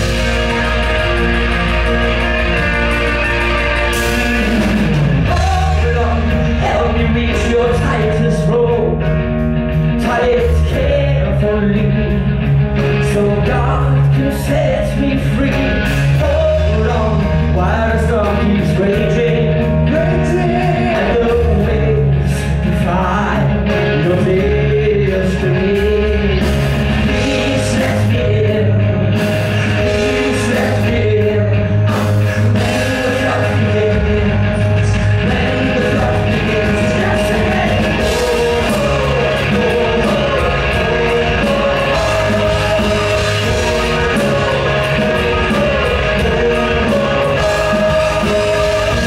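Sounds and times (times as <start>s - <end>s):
man singing: 0.0s - 49.0s
rock band playing live: 0.0s - 49.0s.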